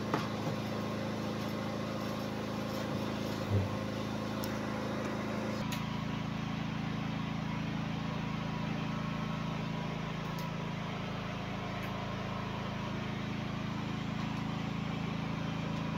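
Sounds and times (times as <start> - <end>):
motor droning: 0.0 - 15.9.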